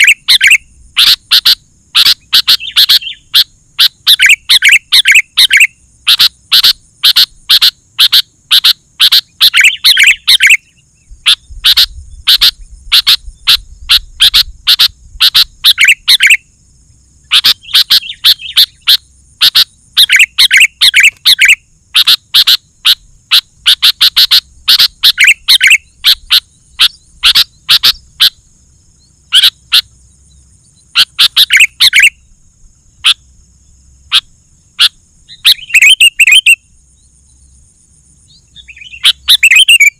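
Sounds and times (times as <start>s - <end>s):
bulbul calling: 0.0s - 16.5s, 17.2s - 39.9s
faint high-pitched buzz: 0.0s - 39.9s.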